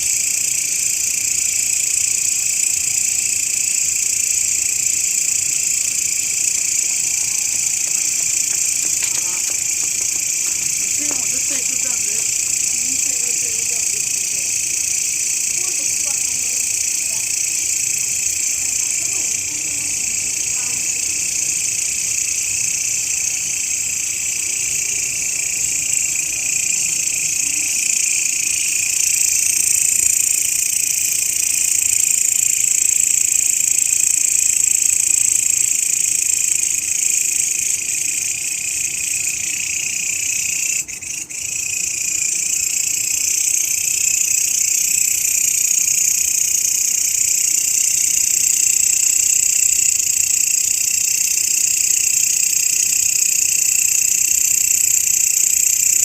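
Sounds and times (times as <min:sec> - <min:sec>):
grasshopper stridulating: 0:00.0 - 0:56.0.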